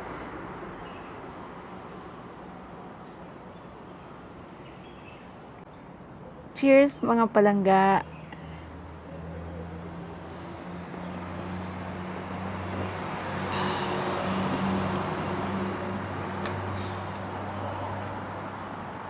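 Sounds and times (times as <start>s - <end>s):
vehicle engine humming: 0.0s - 5.7s, 8.4s - 19.0s.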